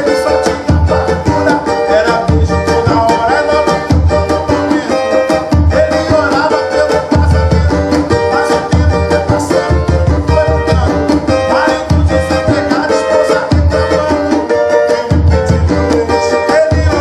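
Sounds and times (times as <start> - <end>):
drum beating fast rhythm: 0.0 - 17.0
small guitar strummed: 0.0 - 17.0.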